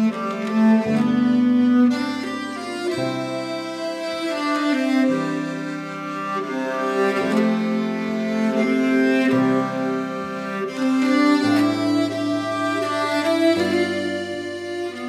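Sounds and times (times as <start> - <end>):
slow bowed string music: 0.0 - 15.0.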